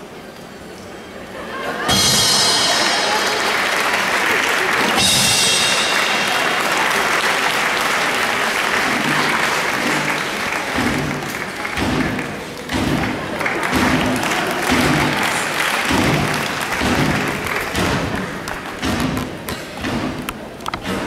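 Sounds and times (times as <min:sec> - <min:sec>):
audience applauding: 0:02.4 - 0:19.5.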